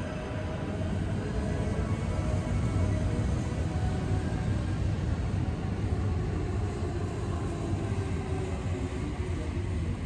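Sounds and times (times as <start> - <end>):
electric train rumble: 0.0 - 10.0.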